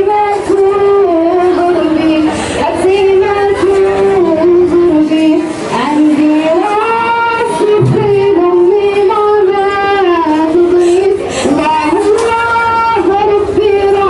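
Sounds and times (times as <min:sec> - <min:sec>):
young woman singing: 0:00.0 - 0:14.0.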